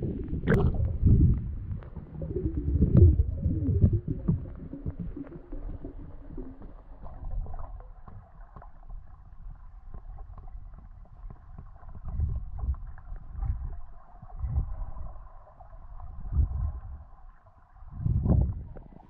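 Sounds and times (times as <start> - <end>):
muffled underwater rumble: 0.0 - 19.0.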